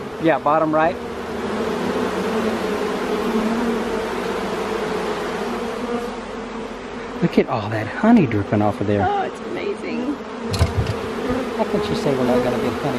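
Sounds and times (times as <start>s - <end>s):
honey bees buzzing: 0.0s - 12.9s.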